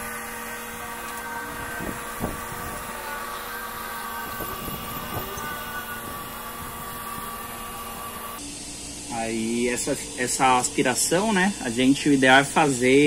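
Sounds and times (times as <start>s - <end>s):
pool pump motor humming: 0.0s - 13.0s.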